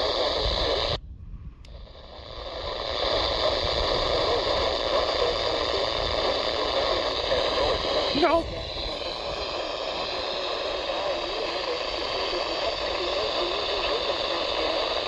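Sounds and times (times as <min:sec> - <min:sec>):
radio static hiss: 0:00.0 - 0:01.0, 0:01.7 - 0:15.0.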